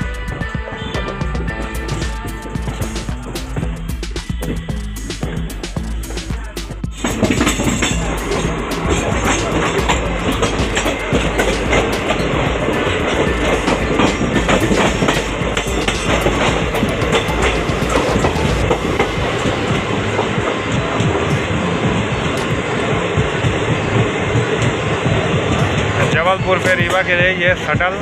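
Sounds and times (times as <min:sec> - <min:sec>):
steel wheels clattering over rails: 0:00.0 - 0:28.0
train passing: 0:00.0 - 0:28.0.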